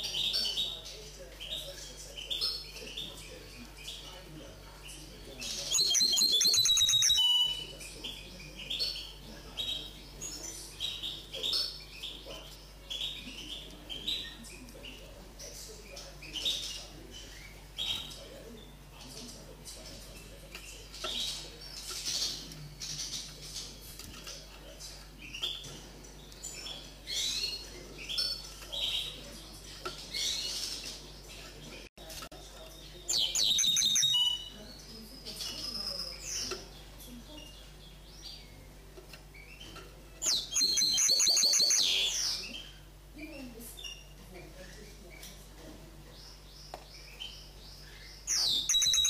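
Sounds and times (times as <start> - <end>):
bird singing trills and twitters: 0.0 - 49.0.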